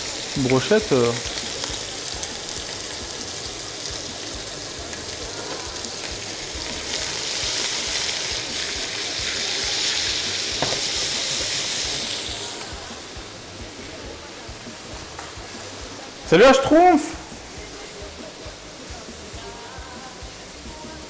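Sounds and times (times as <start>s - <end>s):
sausage sizzling in a pan: 0.0s - 21.0s.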